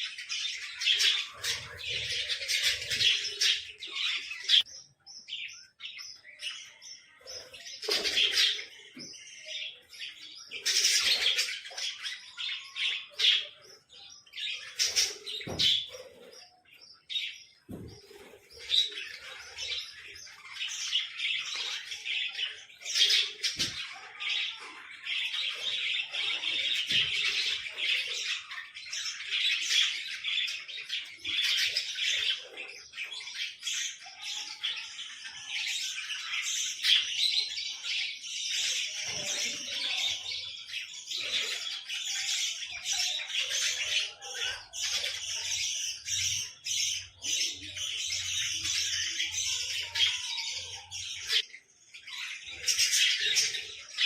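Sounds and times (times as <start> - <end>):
small birds chirping and squawking: 0.0 - 54.0.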